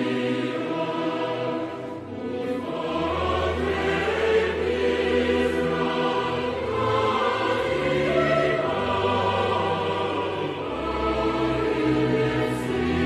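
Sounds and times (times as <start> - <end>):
choir singing held chords: 0.0 - 13.0
orchestral strings: 0.0 - 13.0.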